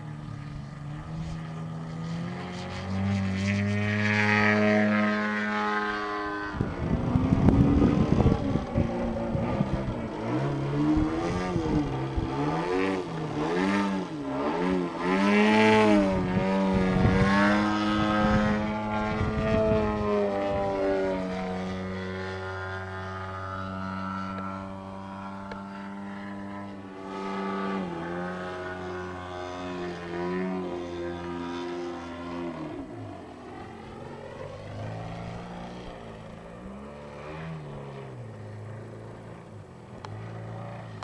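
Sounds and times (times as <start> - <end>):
model plane engine: 0.0 - 41.0.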